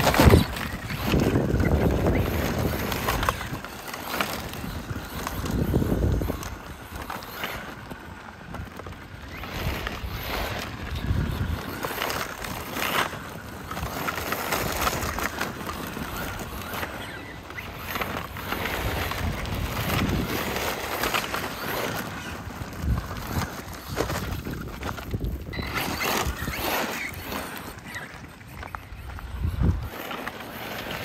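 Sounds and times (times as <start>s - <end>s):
rc truck driving on gravel: 0.0s - 31.0s
tyres crunching gravel: 0.0s - 31.0s.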